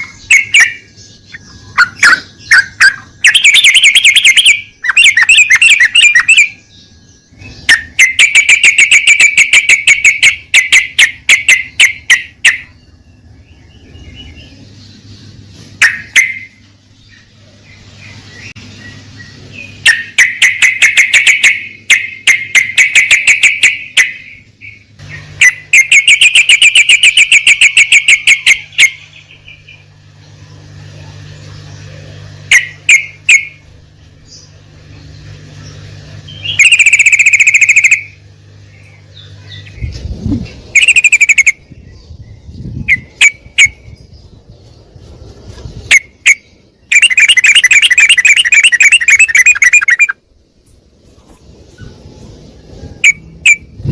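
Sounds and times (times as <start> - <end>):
bird chattering song: 0.0 - 50.2
faint low hum: 0.0 - 53.9.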